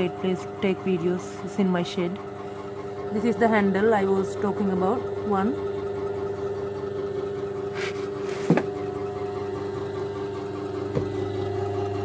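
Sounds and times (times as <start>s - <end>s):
pottery wheel motor humming: 0.0s - 12.0s.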